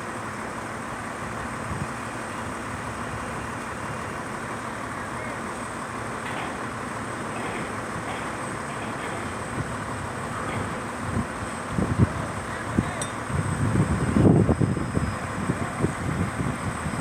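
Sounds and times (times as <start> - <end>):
crane engine running: 0.0 - 17.0.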